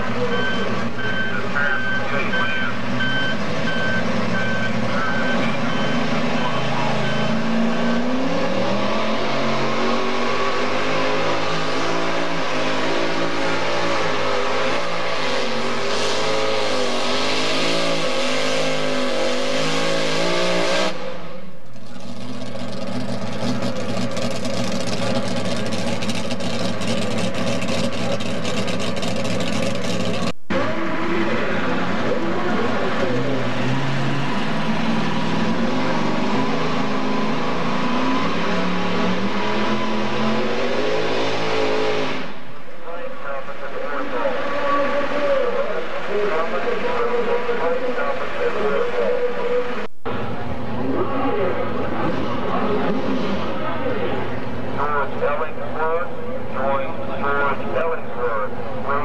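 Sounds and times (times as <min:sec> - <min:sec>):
tractor engine at full throttle: 0:00.0 - 0:59.0.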